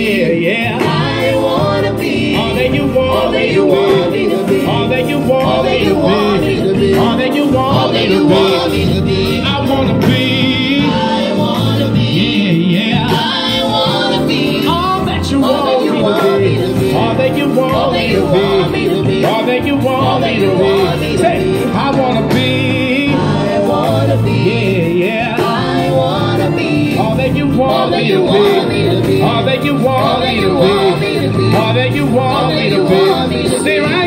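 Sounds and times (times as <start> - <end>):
backing singers: 0.0 - 34.0
instrumental accompaniment: 0.0 - 34.0
man singing lead: 0.0 - 34.0.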